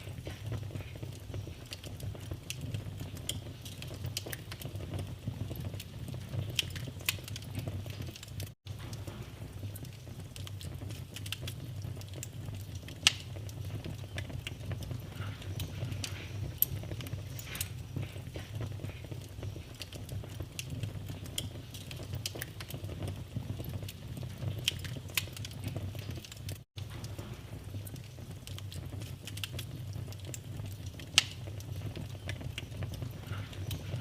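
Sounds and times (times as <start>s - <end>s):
loud fire pops: 0.0s - 34.0s
low rumble of flames: 0.0s - 34.0s
wood fire crackling: 0.0s - 34.0s.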